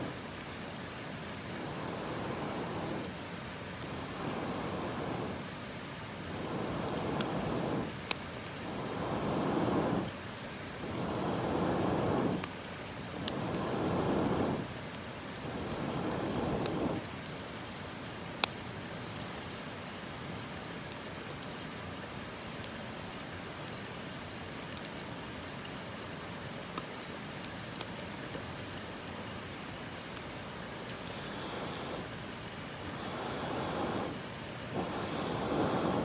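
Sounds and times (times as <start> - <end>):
campfire hissing and crackling: 0.0 - 36.0.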